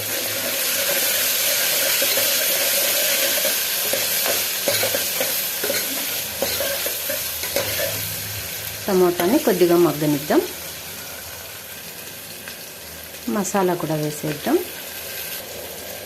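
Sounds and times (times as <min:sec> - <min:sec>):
tomatoes sizzling in hot oil: 0:00.0 - 0:16.0.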